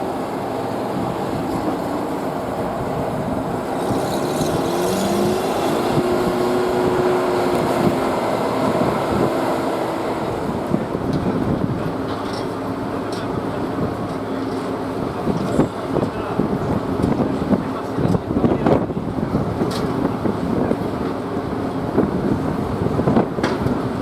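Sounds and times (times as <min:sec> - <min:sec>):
auxiliary engine running: 0:00.0 - 0:24.0.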